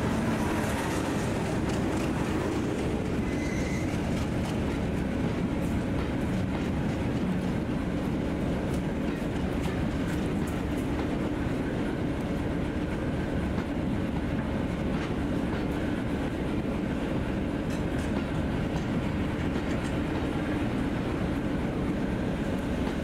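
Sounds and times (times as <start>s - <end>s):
train coaches rumbling past: 0.0s - 23.0s.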